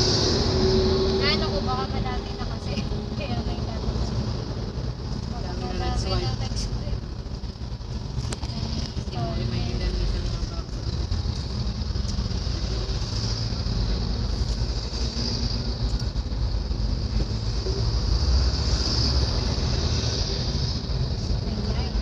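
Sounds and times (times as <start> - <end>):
car road noise rumble: 0.0 - 22.0
truck passing alongside: 0.0 - 22.0.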